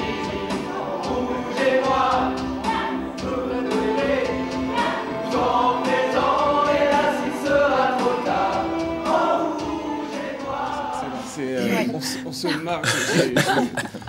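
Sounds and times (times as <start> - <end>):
men's chorus singing: 0.0 - 14.0.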